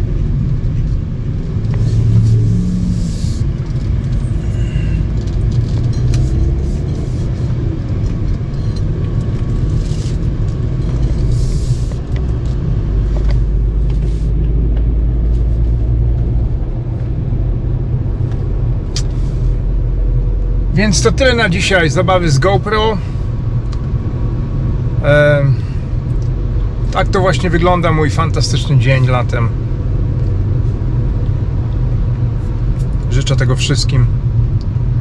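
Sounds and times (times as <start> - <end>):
car engine and tyres rumble: 0.0 - 35.0.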